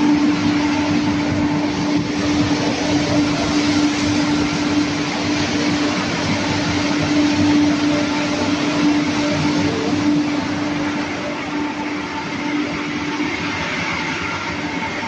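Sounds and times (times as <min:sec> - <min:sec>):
water jets spraying: 0:00.0 - 0:13.2
machine hum: 0:00.0 - 0:15.0.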